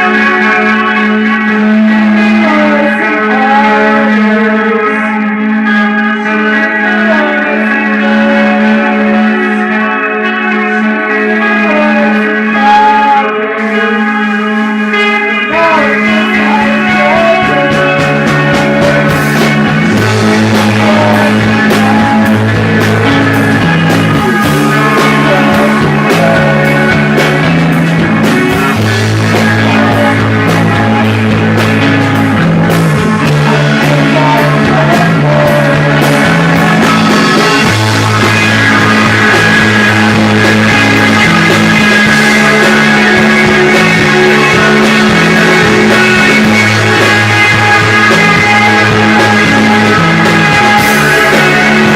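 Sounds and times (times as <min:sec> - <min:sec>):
bass guitar line: 0:00.0 - 0:51.9
rock band playing live: 0:00.0 - 0:51.9.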